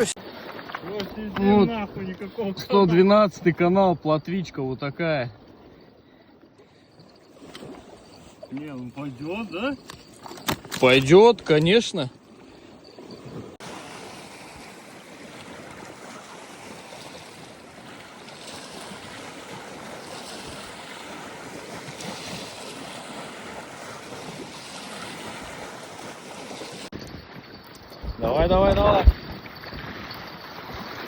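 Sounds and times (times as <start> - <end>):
water splashing and lapping: 0.0 - 31.0.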